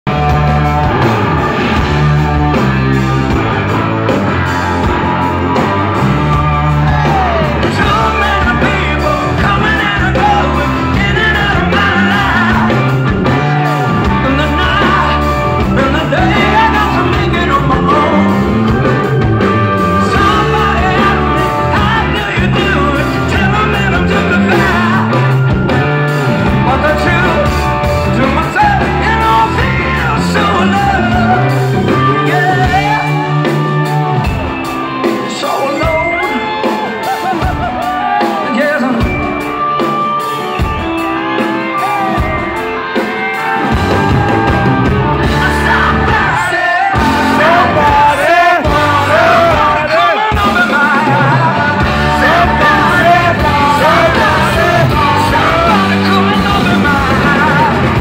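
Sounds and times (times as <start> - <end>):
rock band playing live: 0.0 - 58.0
singer singing: 0.1 - 58.0.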